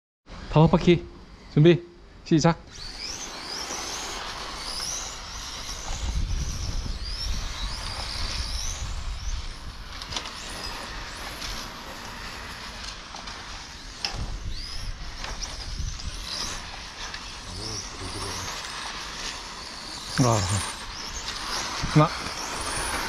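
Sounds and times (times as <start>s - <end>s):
rc car motor whines: 2.6s - 23.0s.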